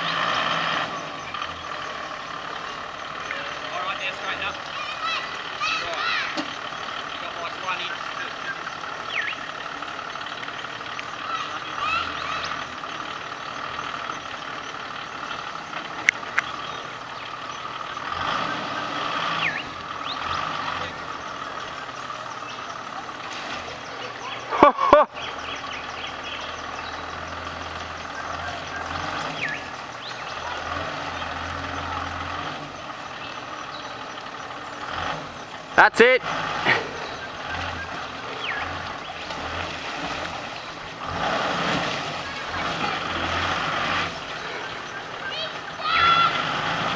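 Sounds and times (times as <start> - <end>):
engine running at low revs: 0.0 - 46.9
vehicle through deep water: 0.0 - 46.9.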